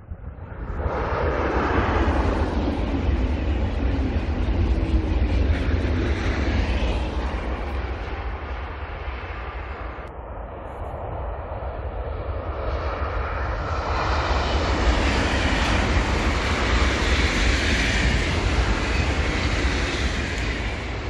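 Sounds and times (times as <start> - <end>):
high-speed train passing: 0.0 - 21.0.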